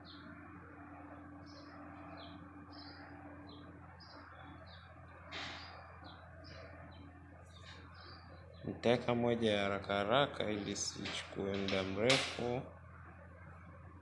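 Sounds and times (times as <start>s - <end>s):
small birds chirping: 0.0s - 12.1s
low steady hum: 0.0s - 14.0s.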